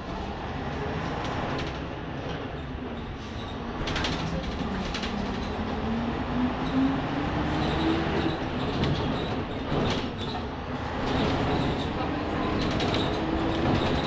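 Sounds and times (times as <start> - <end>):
bus body rattles: 0.0 - 14.0
bus diesel engine: 0.0 - 14.0.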